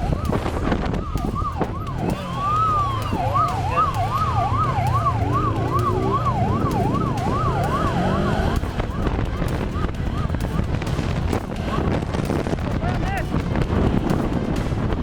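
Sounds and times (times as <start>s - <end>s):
police siren wailing: 0.0s - 12.5s
vehicle engine and road noise: 0.0s - 15.0s.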